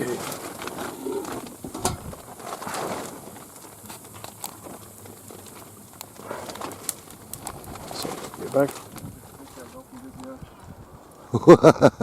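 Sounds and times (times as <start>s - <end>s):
wood fire crackling: 0.0s - 11.6s.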